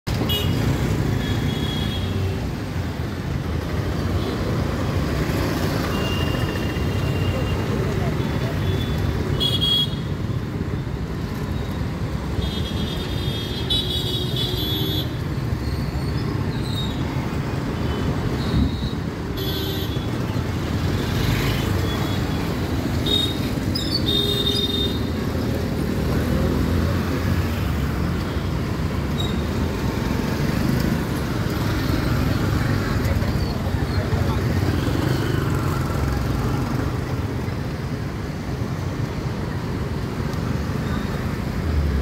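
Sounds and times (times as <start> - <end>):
traffic engine and road rumble: 0.0 - 42.0.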